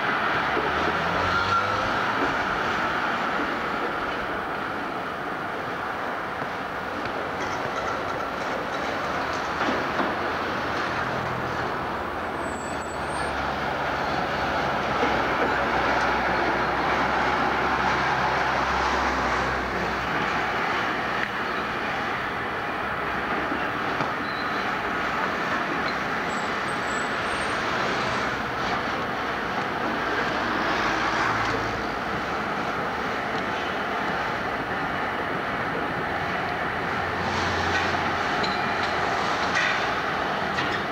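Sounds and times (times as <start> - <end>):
city street traffic: 0.0 - 40.9
electric trams running on track: 0.0 - 40.9.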